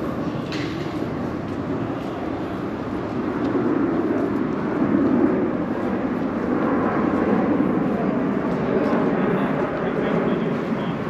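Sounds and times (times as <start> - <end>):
low rumble of distant engine: 0.0 - 11.0.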